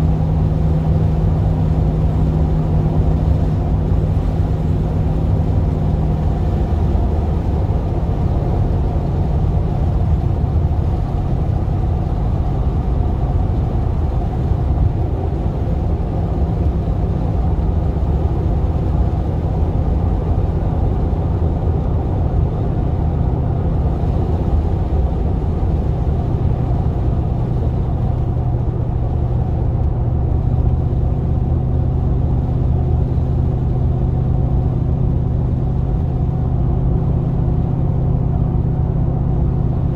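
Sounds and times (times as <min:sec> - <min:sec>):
van engine rumbling: 0:00.0 - 0:39.9.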